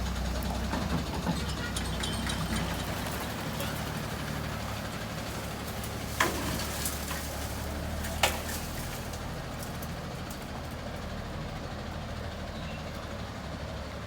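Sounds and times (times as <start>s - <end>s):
garbage truck engine hum: 0.0s - 14.0s.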